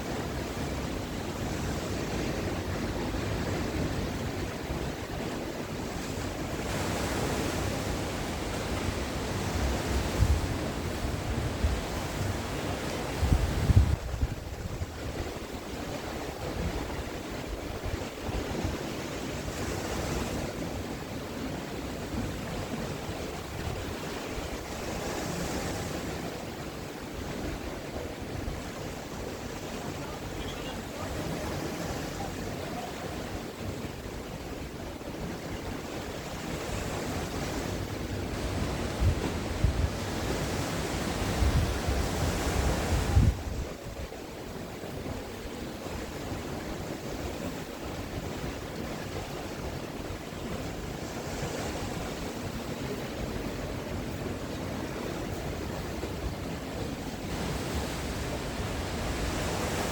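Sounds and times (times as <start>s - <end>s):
sea waves breaking on shore: 0.0s - 59.9s
wind rumble on microphone: 0.0s - 59.9s.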